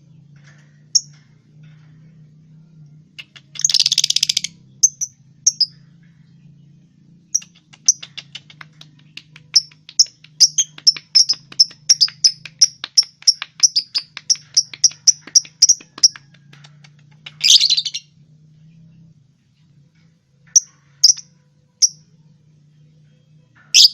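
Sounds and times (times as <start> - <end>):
lovebirds chirping: 0.0 - 19.2, 19.9 - 23.9
faint low hum: 0.0 - 23.9.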